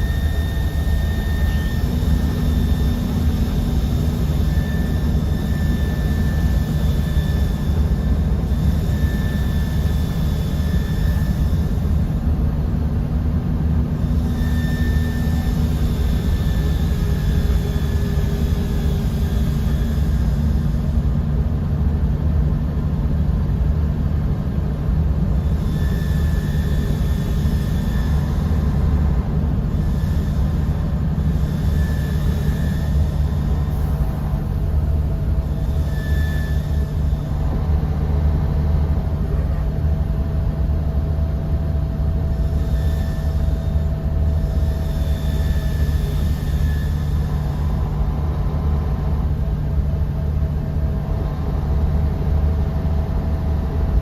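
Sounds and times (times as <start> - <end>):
bus diesel engine drone: 0.0 - 54.0
faint high whines: 0.0 - 54.0.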